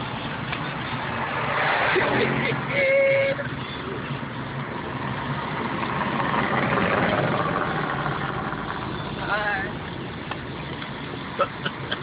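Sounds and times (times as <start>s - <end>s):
car engine running: 0.0s - 12.0s
road noise inside car: 0.0s - 12.0s.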